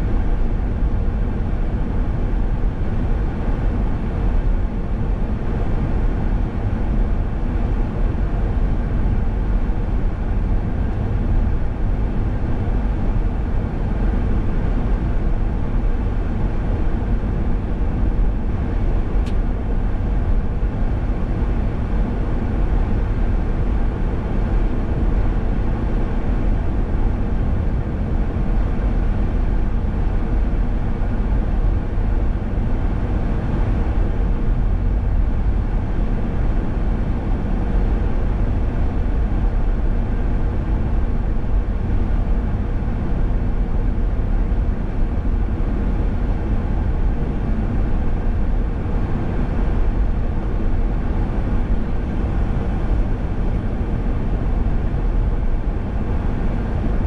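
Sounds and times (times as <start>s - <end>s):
car driving at road speed: 0.0s - 57.0s.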